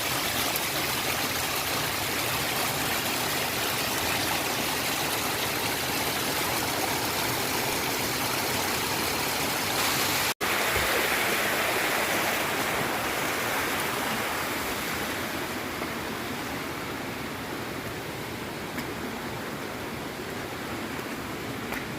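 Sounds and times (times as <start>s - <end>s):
rushing water: 0.0s - 21.9s.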